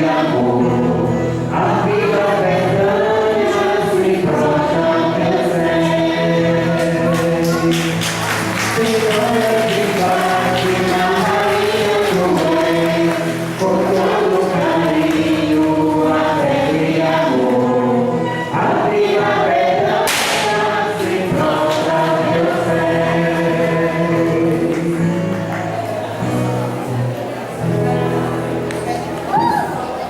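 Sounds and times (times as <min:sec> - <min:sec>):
choir singing a hymn: 0:00.0 - 0:28.6.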